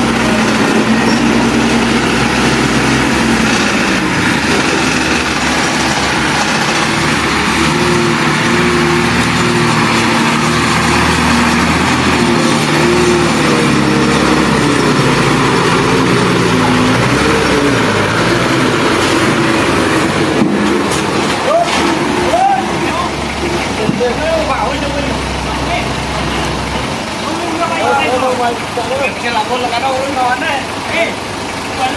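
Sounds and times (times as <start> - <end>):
diesel engine of earthmover: 0.0 - 31.9.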